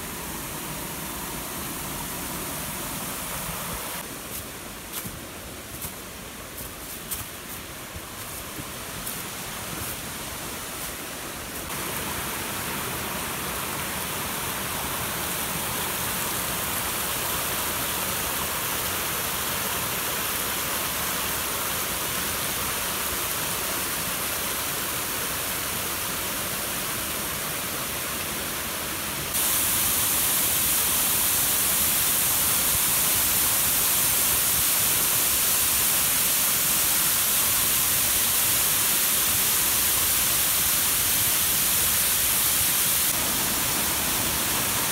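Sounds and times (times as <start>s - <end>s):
waterfall rushing: 0.0s - 4.8s, 7.3s - 44.9s.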